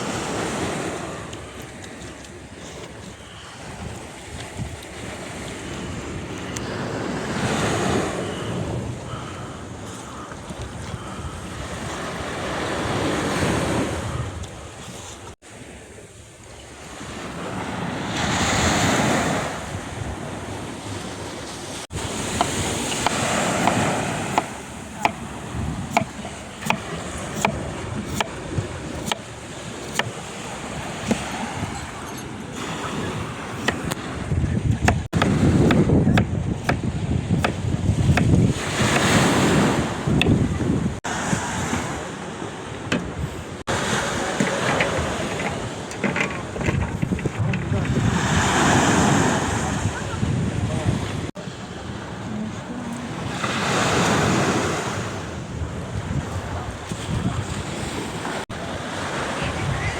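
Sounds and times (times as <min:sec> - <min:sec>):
wind buffeting microphone: 0:00.0 - 0:15.4, 0:16.8 - 0:59.9
sea waves on shore: 0:00.0 - 0:59.9.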